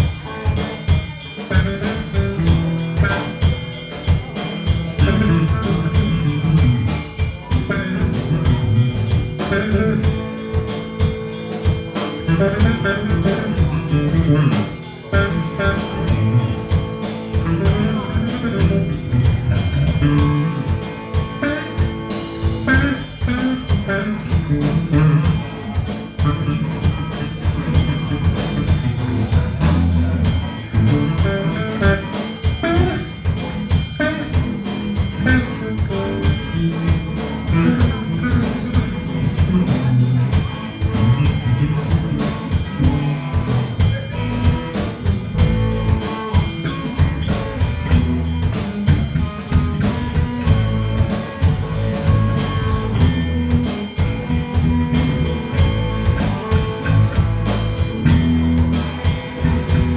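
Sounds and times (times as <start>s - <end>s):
drum kit beat: 0.0s - 59.9s
guitar: 0.0s - 59.9s.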